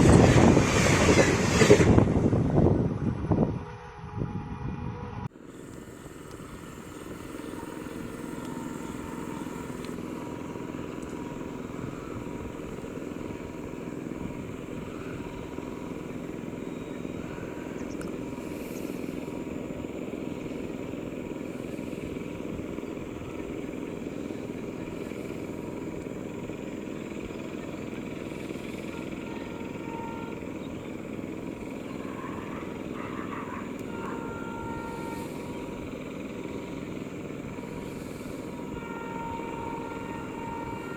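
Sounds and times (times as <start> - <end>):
diesel train rumbling at speed: 0.0 - 40.9.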